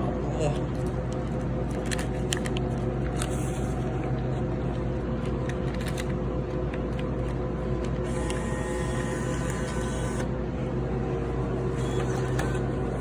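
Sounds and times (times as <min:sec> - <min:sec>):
vending machine electrical hum: 0:00.0 - 0:13.0.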